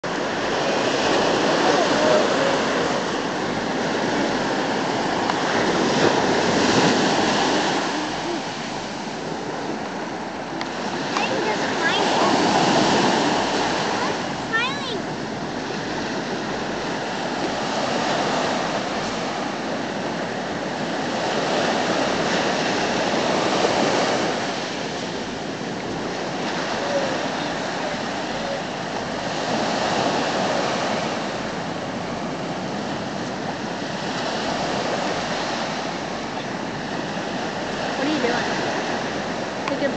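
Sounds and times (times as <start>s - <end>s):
surf washing up beach: 0.0s - 39.9s.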